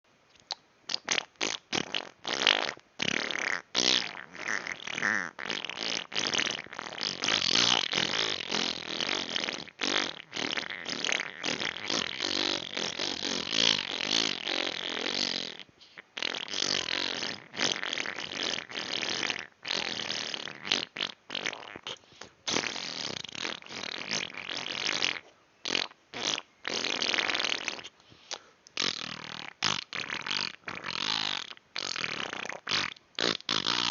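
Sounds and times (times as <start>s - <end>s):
person blowing raspberries: 0.4s - 33.9s.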